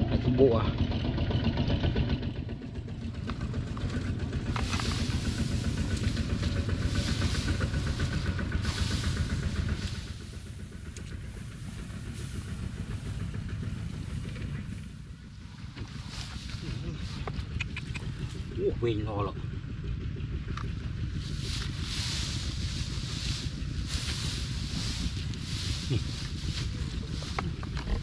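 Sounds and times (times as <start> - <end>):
small engine running roughly: 0.0 - 28.0.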